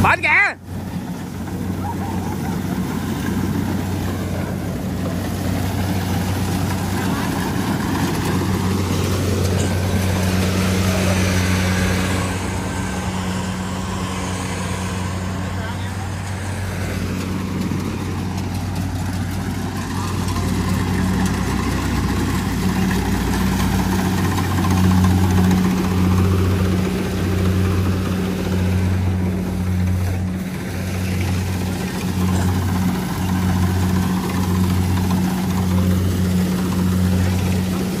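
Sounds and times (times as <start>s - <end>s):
engine droning: 0.0s - 38.0s.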